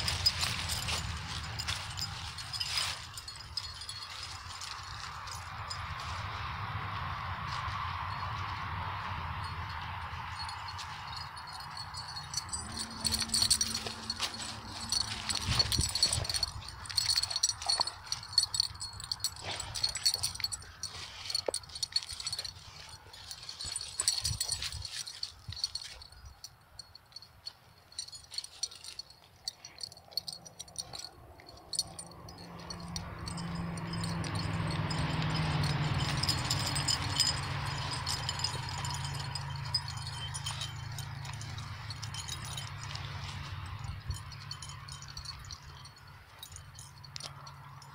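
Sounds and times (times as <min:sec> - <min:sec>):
dog tags jingling: 0:00.0 - 0:06.4, 0:08.1 - 0:47.9.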